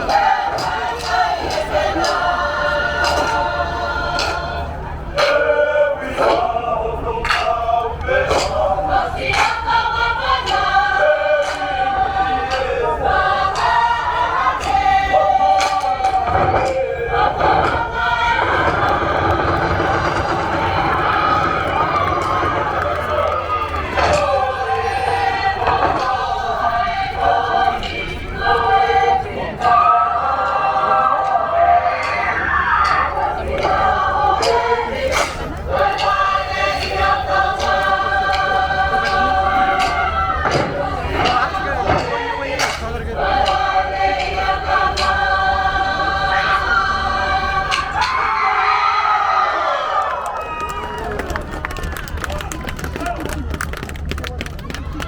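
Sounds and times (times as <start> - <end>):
group singing in harmony: 0.0 - 50.3.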